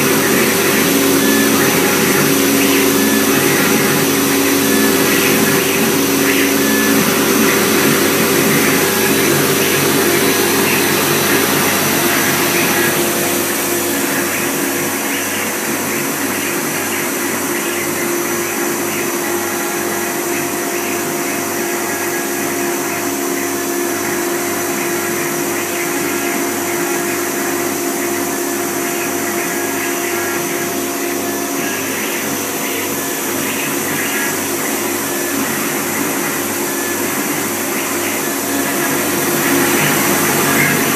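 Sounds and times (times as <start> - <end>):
router spindle whine and cutting: 0.0 - 40.9.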